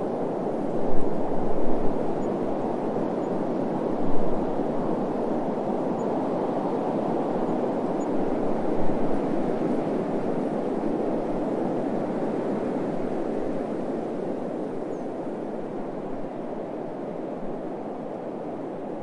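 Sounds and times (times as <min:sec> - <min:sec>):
low rushing wind: 0:00.0 - 0:19.0.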